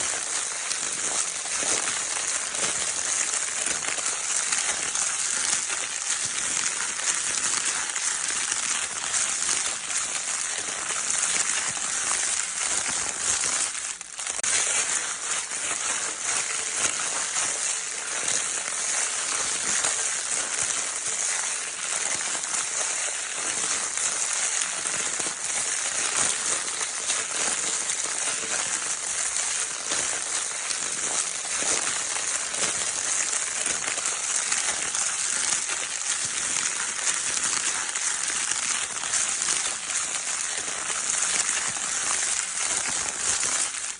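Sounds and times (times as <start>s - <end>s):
crinkle paper being crumpled: 0.0s - 43.9s.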